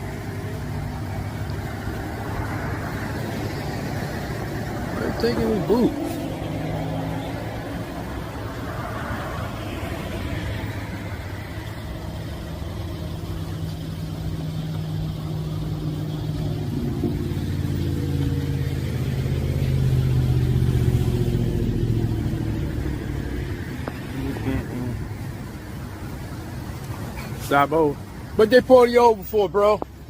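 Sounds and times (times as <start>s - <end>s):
car engine running: 0.0s - 28.4s.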